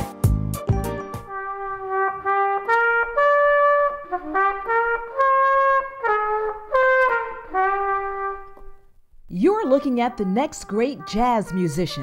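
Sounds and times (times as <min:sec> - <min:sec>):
solo trumpet melody: 0:00.8 - 0:12.0.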